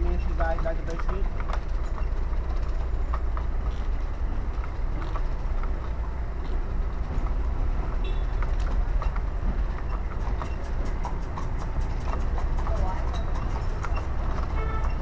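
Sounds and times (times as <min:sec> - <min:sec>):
carriage rolling rumble: 0:00.0 - 0:15.0
horse hooves clopping on road: 0:00.0 - 0:15.0.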